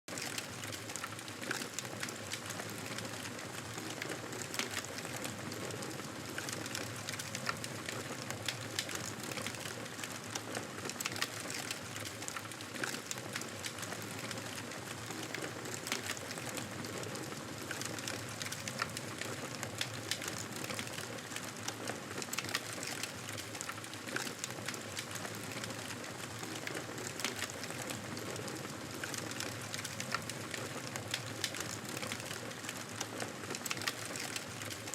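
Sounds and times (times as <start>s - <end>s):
wood fire crackling and popping: 0.1s - 34.9s.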